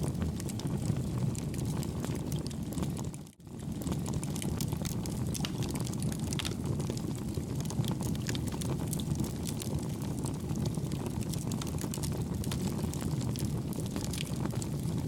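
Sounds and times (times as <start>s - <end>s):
campfire flames rumbling: 0.0s - 15.0s
fire crackling and popping: 0.0s - 15.0s.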